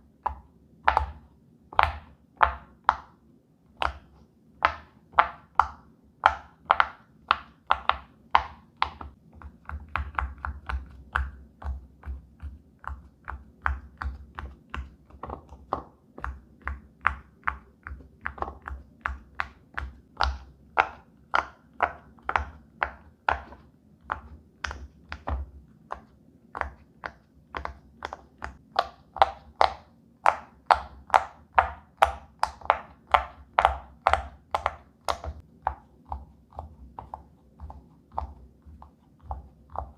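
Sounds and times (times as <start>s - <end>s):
pop-it toy bubbles popping: 3.8s - 39.9s.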